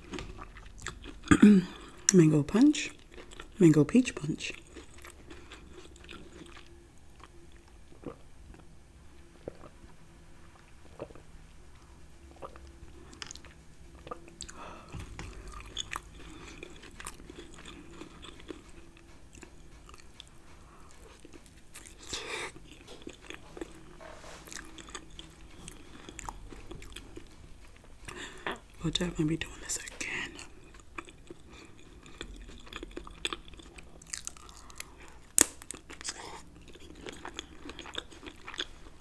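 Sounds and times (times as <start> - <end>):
low steady hum: 0.0 - 39.0
wet chewing and mouth sounds: 0.0 - 39.0.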